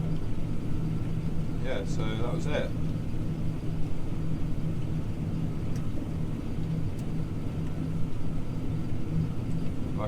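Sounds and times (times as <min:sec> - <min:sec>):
combine engine drone in cab: 0:00.0 - 0:10.0.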